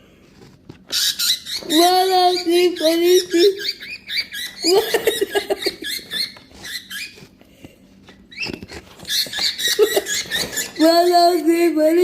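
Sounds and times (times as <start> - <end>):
pet bird chirping and squeaking: 0.9 - 7.4, 8.1 - 12.0.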